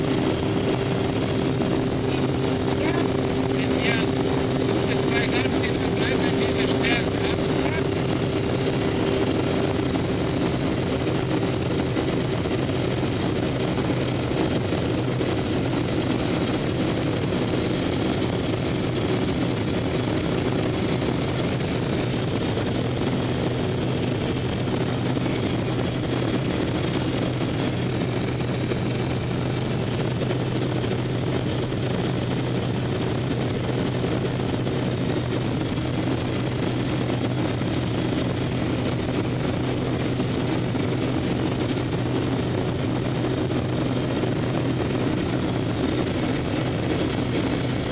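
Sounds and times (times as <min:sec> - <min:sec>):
propeller aircraft cabin drone: 0:00.0 - 0:47.9.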